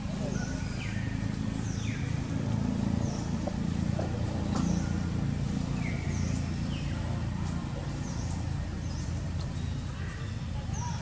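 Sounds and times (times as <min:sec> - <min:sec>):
birds whistling: 0:00.0 - 0:11.0.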